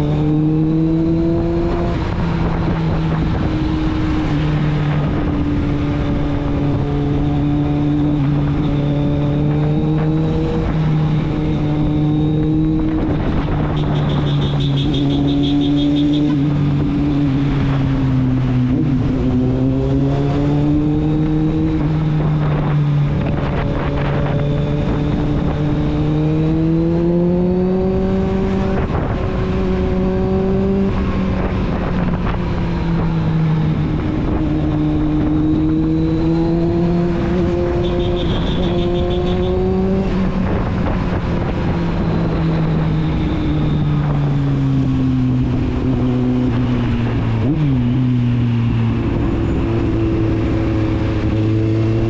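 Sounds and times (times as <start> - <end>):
motorcycle engine and exhaust: 0.0 - 52.0.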